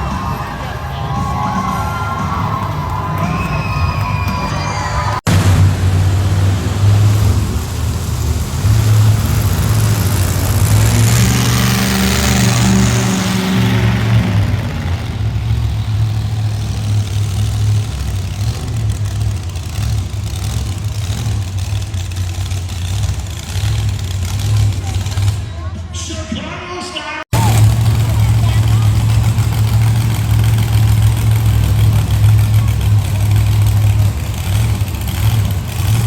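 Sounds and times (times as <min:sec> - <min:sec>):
monster truck engine revving: 0:00.0 - 0:26.1, 0:27.1 - 0:36.0.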